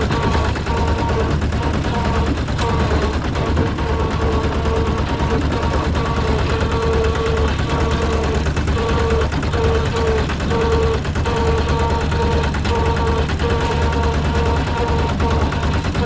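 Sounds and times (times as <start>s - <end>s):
combine harvester engine drone: 0.0s - 16.0s
machine whine: 0.0s - 16.0s
rapid machinery clatter: 0.0s - 16.0s.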